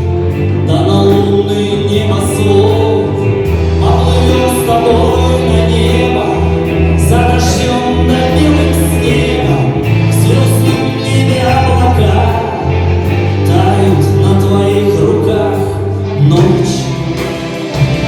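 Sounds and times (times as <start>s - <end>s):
live rock band playing: 0.0s - 18.0s
person singing: 0.0s - 18.0s
sustained bass: 0.0s - 18.0s.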